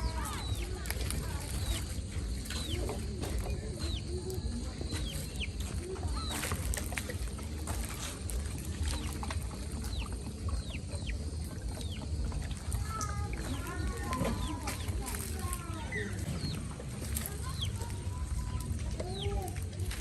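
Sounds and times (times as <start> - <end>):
bird chirping: 0.0 - 20.0
steady low rumble: 0.0 - 20.0.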